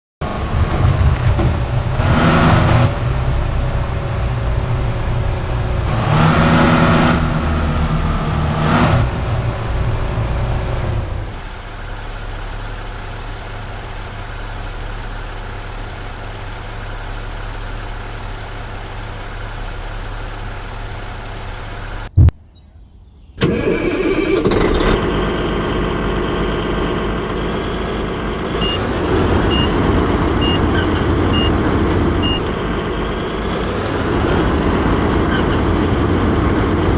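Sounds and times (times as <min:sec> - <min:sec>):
excavator engine revving and idling: 0:00.2 - 0:22.2, 0:23.4 - 0:36.9.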